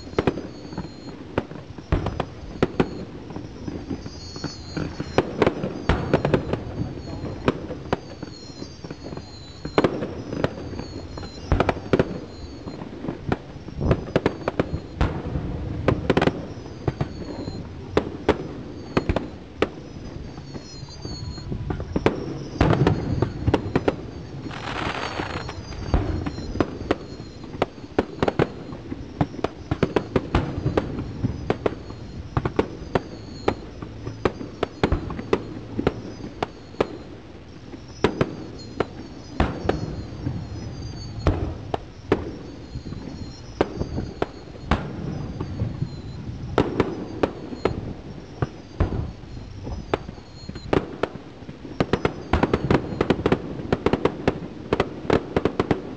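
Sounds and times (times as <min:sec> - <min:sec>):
fireworks bangs: 0:00.0 - 0:55.9
fireworks whistles: 0:00.0 - 0:55.9
fireworks hiss: 0:01.4 - 0:51.0.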